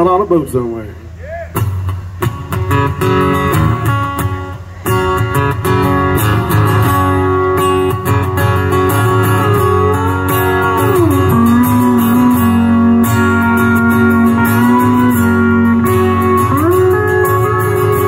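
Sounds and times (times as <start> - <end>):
strummed acoustic guitar: 1.5 - 18.0.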